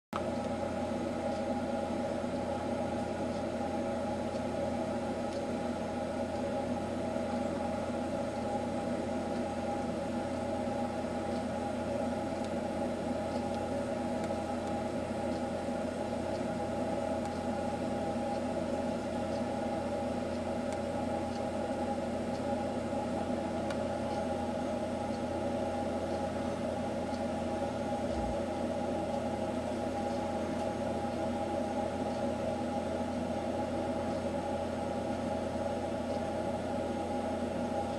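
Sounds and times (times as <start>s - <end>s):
steady mechanical hum: 0.2s - 37.9s.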